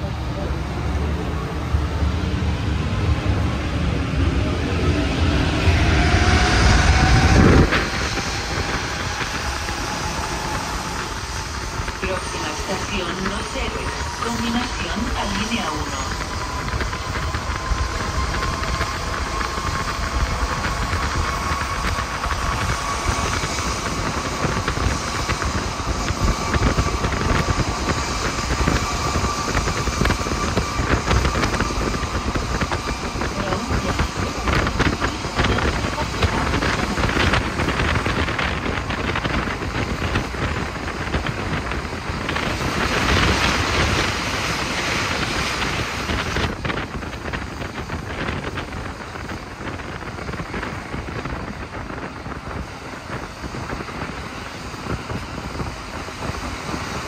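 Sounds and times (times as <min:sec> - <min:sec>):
train running gear rumble: 0:00.0 - 0:57.0
thin whine: 0:03.6 - 0:57.0.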